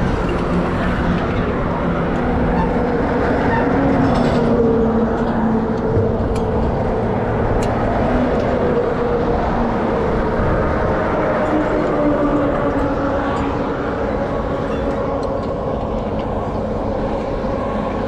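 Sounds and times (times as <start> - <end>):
heavy highway traffic rumble: 0.0 - 18.0.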